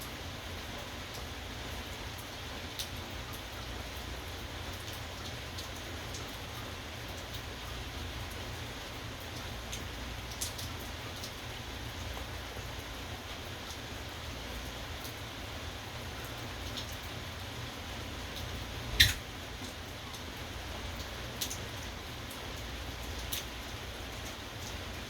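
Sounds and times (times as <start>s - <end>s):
raindrops ticking on surface: 0.0s - 25.0s
steady rain falling: 0.0s - 25.0s.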